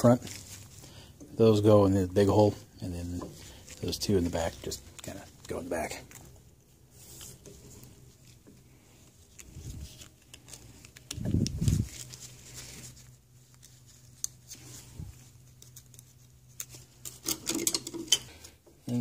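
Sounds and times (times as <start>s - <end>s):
gloved hands rustling and rubbing: 0.0s - 17.3s
steady low hum: 0.0s - 19.0s.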